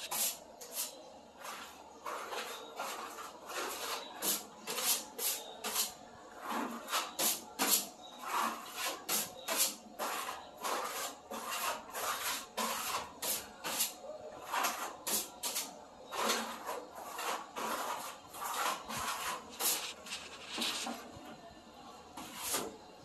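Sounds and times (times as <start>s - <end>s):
scraper scraping ceiling: 0.0s - 21.2s, 22.2s - 22.8s.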